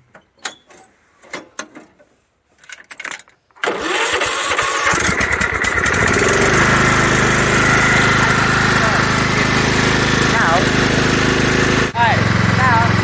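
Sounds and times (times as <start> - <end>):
lawnmower engine cranking and running: 0.5 - 13.0.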